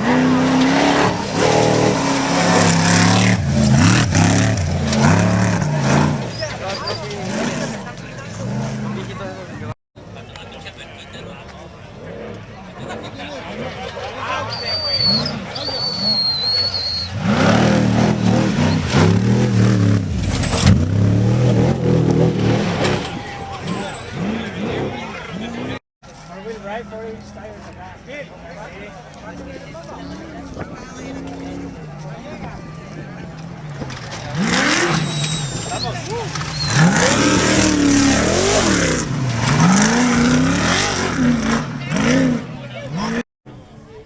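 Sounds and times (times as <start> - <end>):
truck engine revving: 0.0 - 9.8, 11.9 - 25.8, 29.2 - 43.2.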